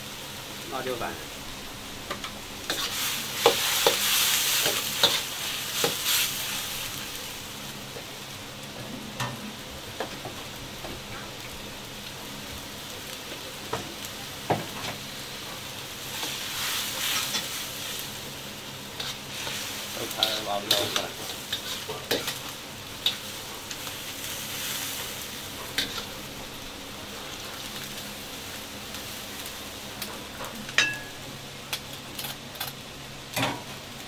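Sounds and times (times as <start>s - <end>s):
vegetables sizzling in a wok: 0.0s - 34.0s.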